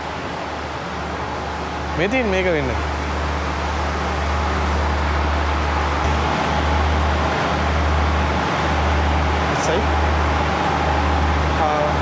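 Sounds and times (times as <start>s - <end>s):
train engine and ventilation rumble: 0.0s - 12.0s.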